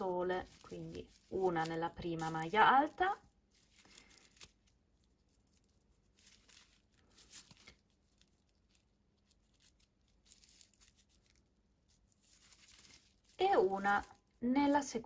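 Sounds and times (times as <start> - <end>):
faint crinkly yarn rustling: 0.0 - 15.0.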